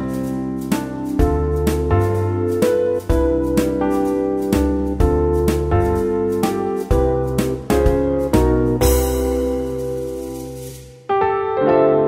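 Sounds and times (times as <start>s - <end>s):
keyboard instrumental music: 0.0s - 12.0s.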